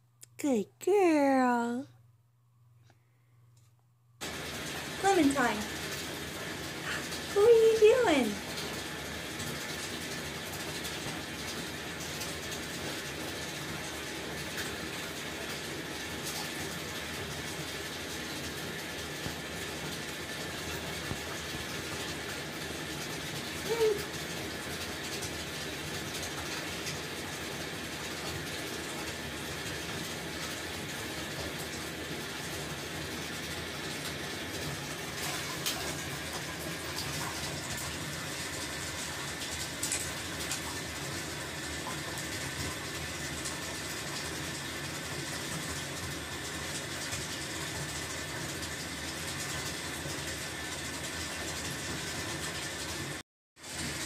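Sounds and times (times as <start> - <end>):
tap water pouring into bathtub: 4.2 - 7.5, 8.2 - 54.0.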